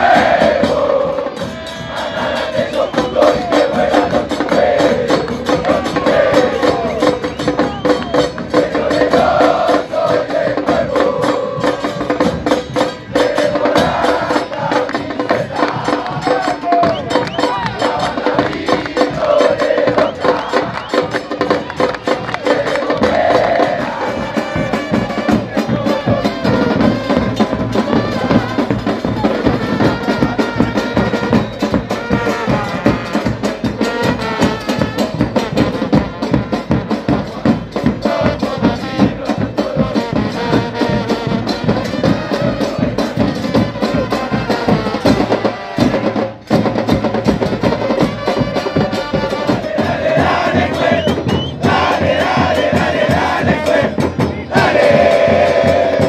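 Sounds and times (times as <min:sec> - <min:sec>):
brass band playing: 0:00.0 - 0:07.6, 0:08.5 - 0:56.0
crowd singing: 0:00.0 - 0:56.0
drums beating fast rhythm: 0:00.0 - 0:56.0.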